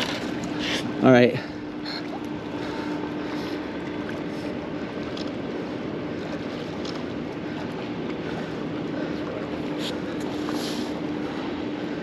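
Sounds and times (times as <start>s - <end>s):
low hum: 0.0s - 12.0s
water noise: 0.0s - 12.0s
wind: 0.0s - 12.0s.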